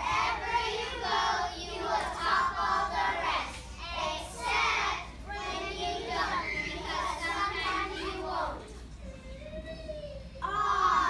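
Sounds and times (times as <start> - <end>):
young children singing together: 0.0 - 9.2.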